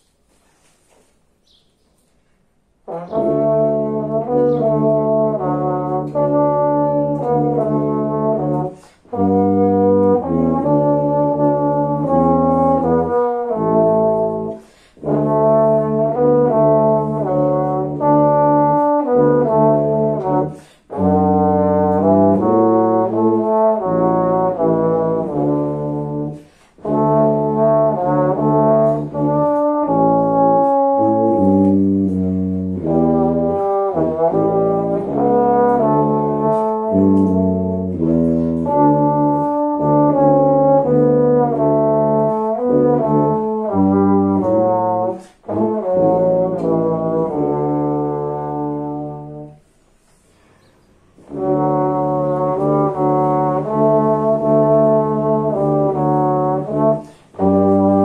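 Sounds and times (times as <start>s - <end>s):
brass duet playing a hymn: 2.8s - 58.0s.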